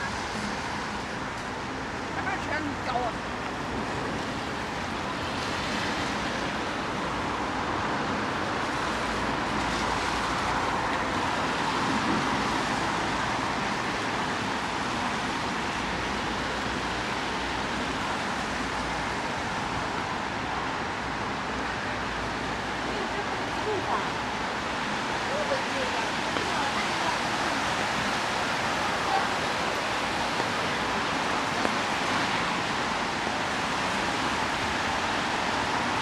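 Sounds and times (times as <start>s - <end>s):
traffic on a rainy street: 0.0s - 36.0s.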